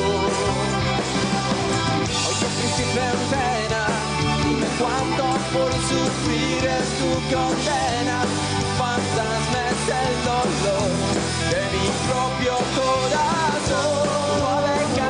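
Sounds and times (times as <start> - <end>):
live rock band: 0.0 - 15.0.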